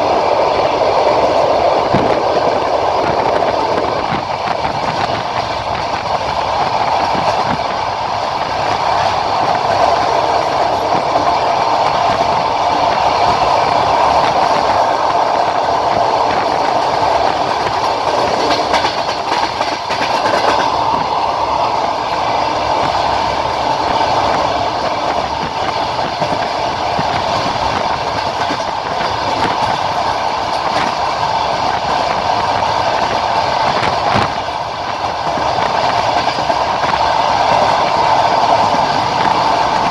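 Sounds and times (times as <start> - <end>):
train rolling rumble: 0.0 - 39.9
wheels clickety-clack over rail joints: 0.0 - 39.9.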